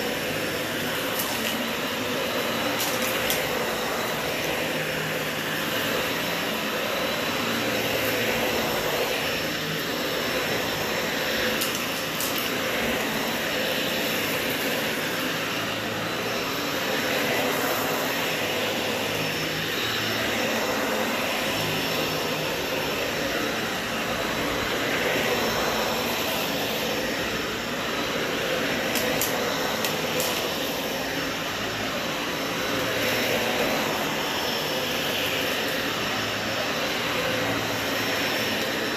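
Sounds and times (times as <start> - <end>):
vacuum cleaner on carpet: 0.0 - 38.9.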